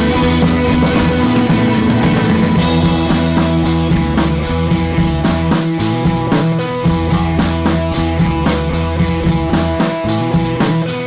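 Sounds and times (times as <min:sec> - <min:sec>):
rock music with drums and guitar: 0:00.0 - 0:11.0.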